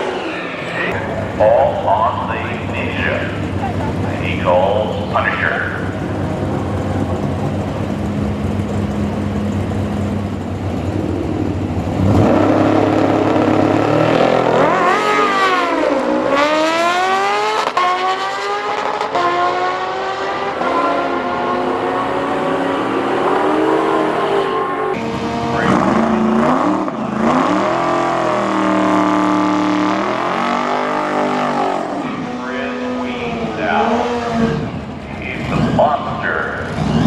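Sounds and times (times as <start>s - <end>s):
racing engines idling and revving: 0.0s - 37.0s.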